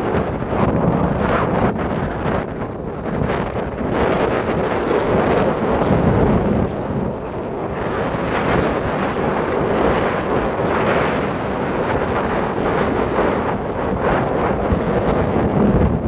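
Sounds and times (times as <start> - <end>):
sea waves breaking on a beach: 0.0 - 16.0
wind buffeting the microphone: 0.0 - 16.0.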